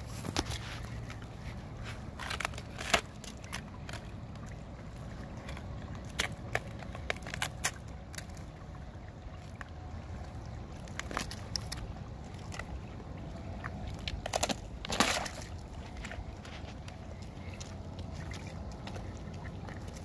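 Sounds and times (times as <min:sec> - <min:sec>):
paw cracking thin ice: 0:00.0 - 0:08.7, 0:10.8 - 0:20.0
water sloshing under ice: 0:00.0 - 0:20.0.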